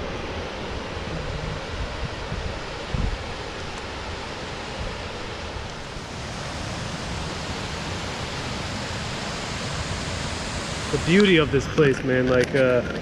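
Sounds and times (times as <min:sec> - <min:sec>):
waterfall rushing over rocks: 0:00.0 - 0:12.2.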